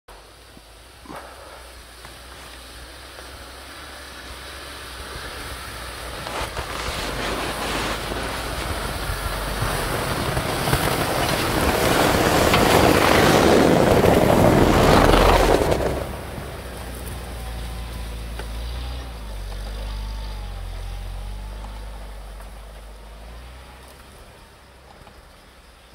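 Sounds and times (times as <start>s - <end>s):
off-road vehicle engine passing: 0.1s - 25.9s
tyres churning snow: 0.1s - 25.9s.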